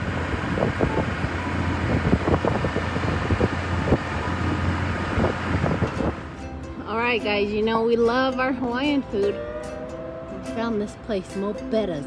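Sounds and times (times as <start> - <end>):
engine and road noise drone: 0.0 - 12.0.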